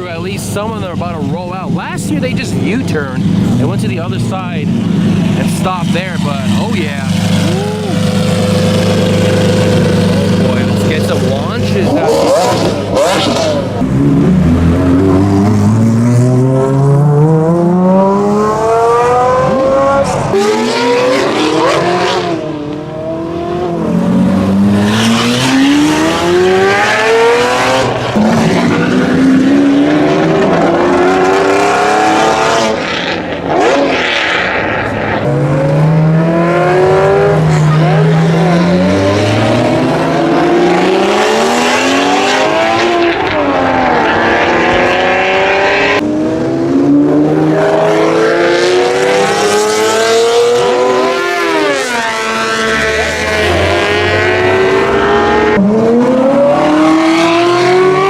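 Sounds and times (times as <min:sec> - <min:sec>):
supercar engines revving: 0:00.0 - 0:58.0.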